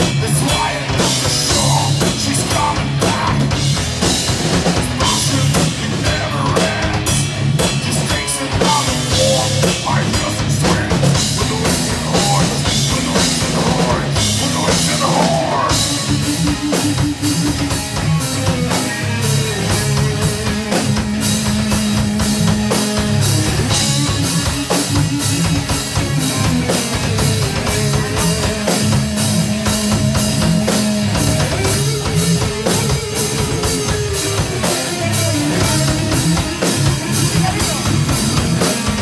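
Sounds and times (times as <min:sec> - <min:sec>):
metal band playing live: 0:00.0 - 0:39.0.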